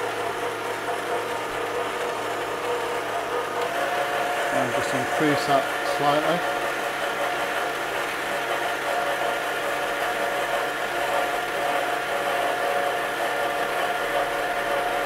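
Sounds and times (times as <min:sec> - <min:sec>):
stand mixer motor running: 0:00.0 - 0:15.0.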